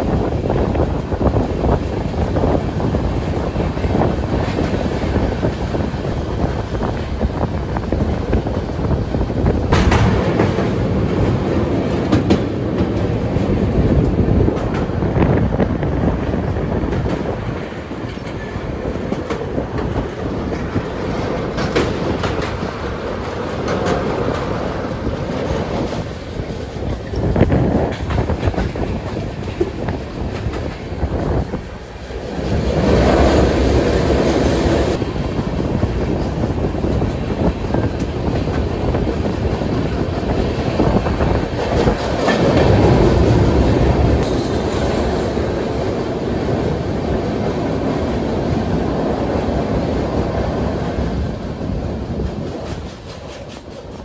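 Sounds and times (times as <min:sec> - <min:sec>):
clickety-clack of rail joints: 0:00.0 - 0:54.0
rumble of train wheels: 0:00.0 - 0:54.0.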